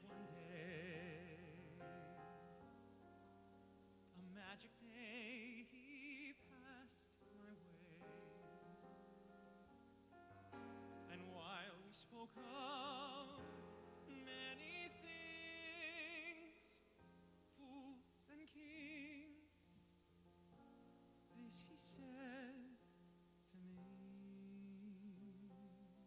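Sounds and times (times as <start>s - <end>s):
man singing with vibrato: 0.0s - 2.4s, 4.1s - 9.1s, 11.0s - 19.8s, 21.3s - 26.0s
grand piano: 0.0s - 26.0s.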